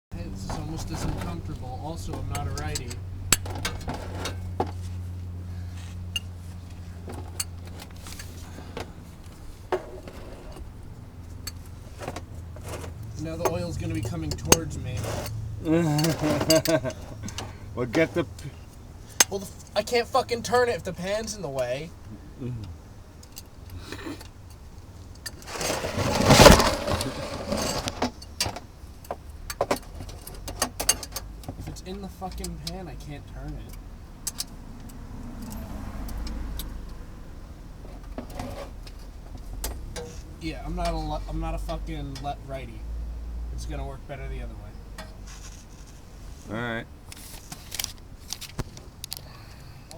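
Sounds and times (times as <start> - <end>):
scraping and rustling handling noise: 0.2 - 22.0, 23.2 - 33.7, 37.7 - 42.8, 44.3 - 49.6.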